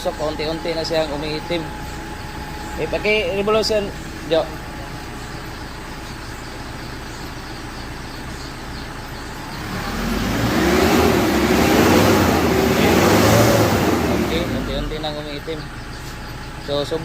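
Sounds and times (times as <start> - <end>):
diesel engine idling and revving: 0.0 - 17.0.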